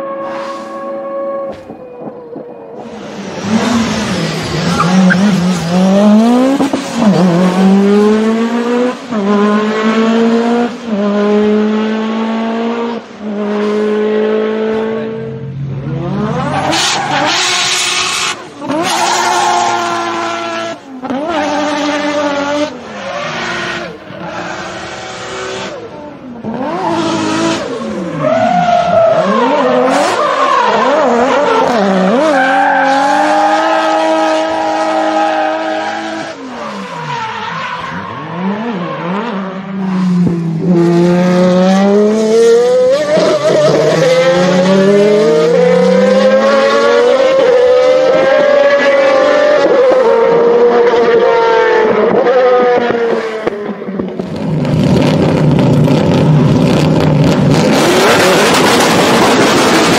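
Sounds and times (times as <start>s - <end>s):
racing car engine revving: 2.8s - 37.2s, 37.8s - 59.9s.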